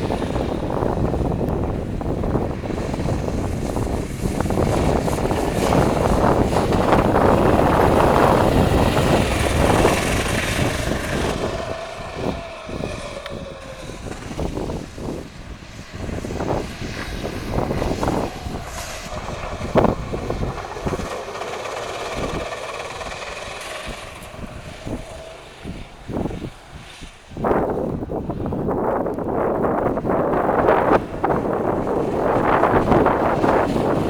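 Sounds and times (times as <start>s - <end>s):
go-kart engine running hard: 0.0s - 34.0s.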